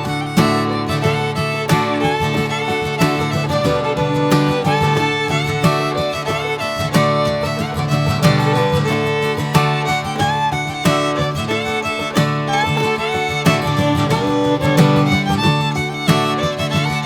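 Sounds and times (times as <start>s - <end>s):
instrumental music with steady beat: 0.0s - 17.0s
plucked strings: 0.0s - 17.0s
sliding fiddle-like string melody: 0.0s - 17.0s.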